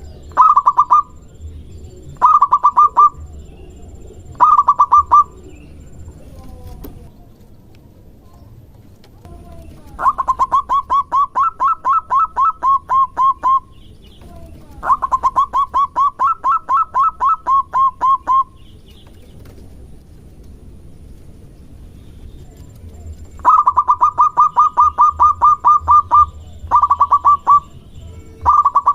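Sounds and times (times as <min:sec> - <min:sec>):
dove staccato cooing: 0:00.0 - 0:07.1, 0:09.2 - 0:19.6, 0:22.5 - 0:28.9.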